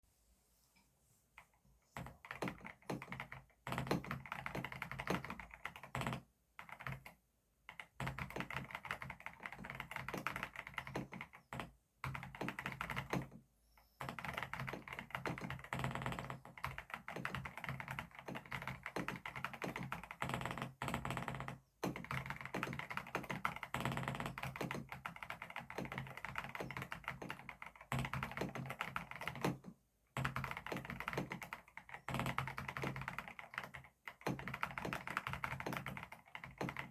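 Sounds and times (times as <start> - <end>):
fast mechanical keyboard typing: 2.0 - 13.4, 14.0 - 36.9.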